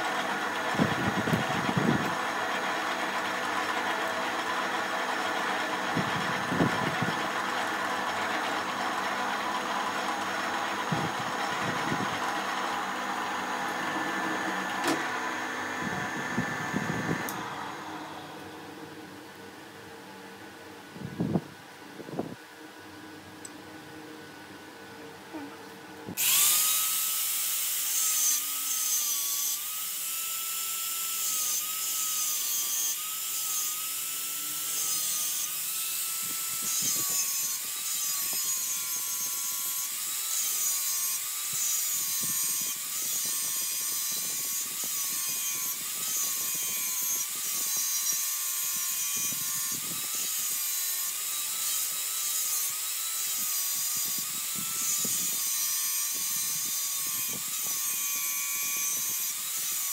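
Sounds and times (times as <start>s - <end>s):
angle grinder grinding steel: 0.0s - 19.1s, 26.1s - 59.9s.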